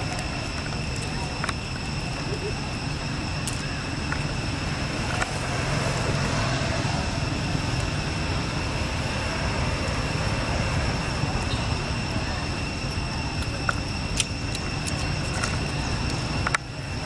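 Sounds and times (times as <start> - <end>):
high-pitched whine: 0.0 - 17.0
traffic rumble: 0.0 - 17.0.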